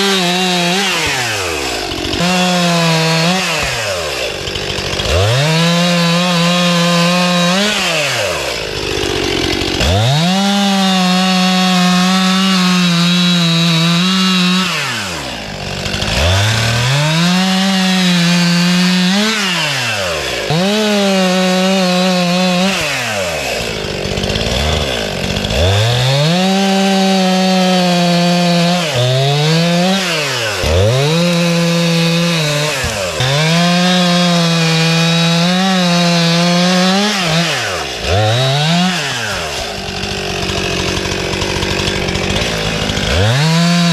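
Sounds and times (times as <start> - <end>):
chainsaw revving and idling: 0.0 - 43.9.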